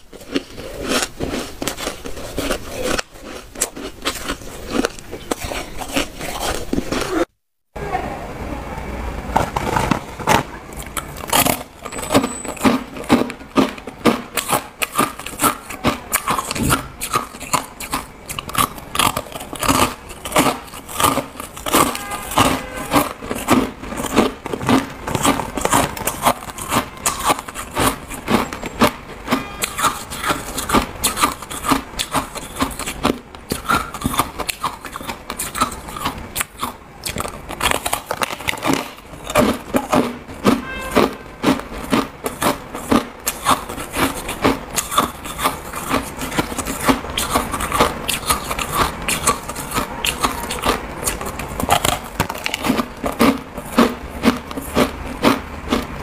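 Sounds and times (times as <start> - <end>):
crunching and chewing ice: 0.0 - 7.3, 9.3 - 56.0.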